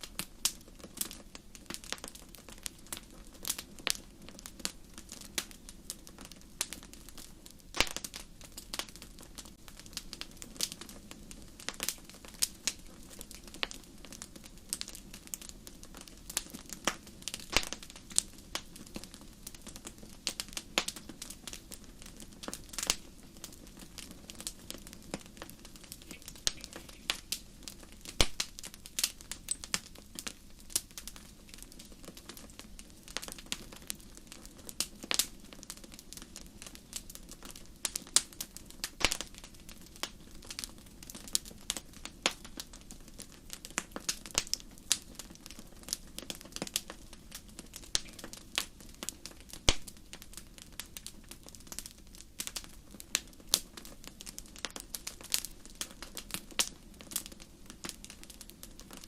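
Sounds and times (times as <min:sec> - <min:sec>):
low hiss of flame: 0:00.0 - 0:58.2
wood fire crackling and popping: 0:00.0 - 0:59.0.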